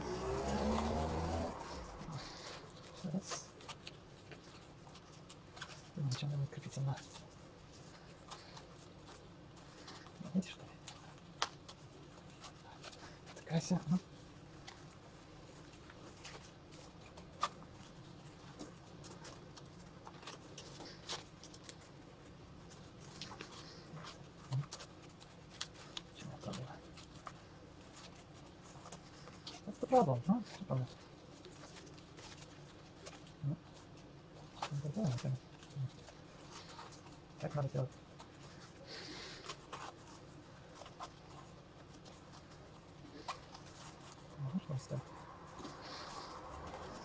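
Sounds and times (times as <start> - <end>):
fabric and straps rustling: 0.0 - 47.0.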